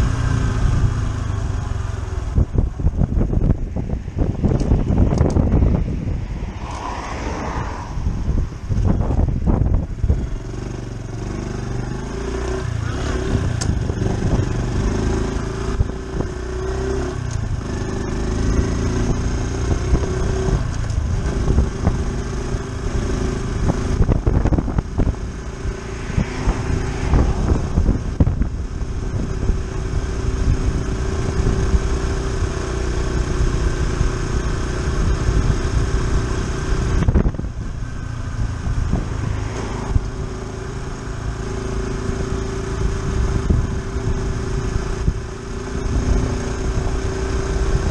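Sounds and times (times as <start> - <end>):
motorcycle engine running: 0.0 - 6.3, 8.0 - 47.9
road rumble: 0.0 - 47.9
wind: 0.0 - 47.9.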